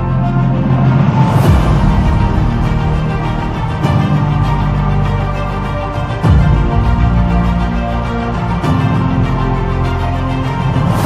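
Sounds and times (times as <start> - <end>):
dramatic background music: 0.0 - 11.0.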